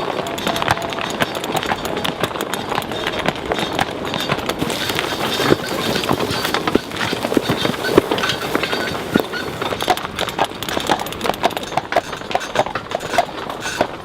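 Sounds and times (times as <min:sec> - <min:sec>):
horse hooves clopping: 0:00.0 - 0:14.0
knocks and rattles: 0:00.0 - 0:14.0.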